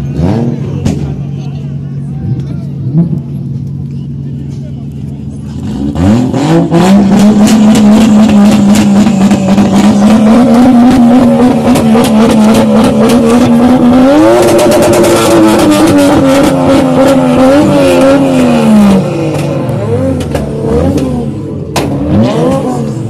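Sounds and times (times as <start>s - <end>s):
car engine revving hard: 0.0s - 1.0s, 5.5s - 23.0s.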